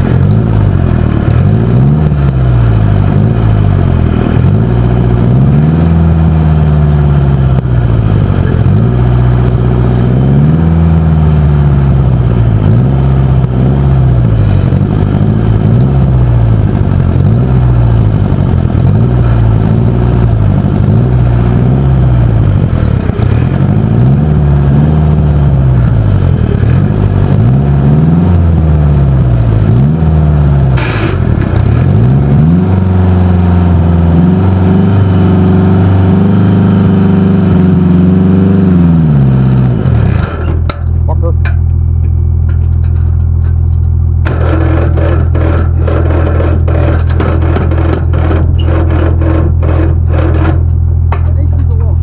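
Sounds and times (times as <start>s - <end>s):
tractor engine revving: 0.0s - 52.0s.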